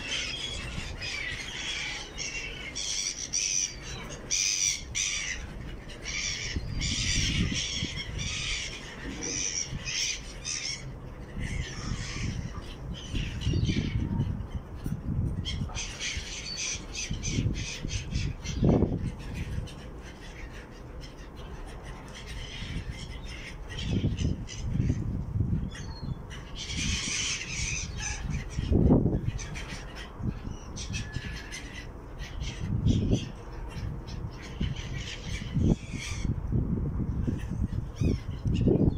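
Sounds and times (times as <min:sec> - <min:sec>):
wind buffeting microphone: 0:00.0 - 0:20.1, 0:21.4 - 0:38.9
gulls squawking: 0:00.0 - 0:36.4.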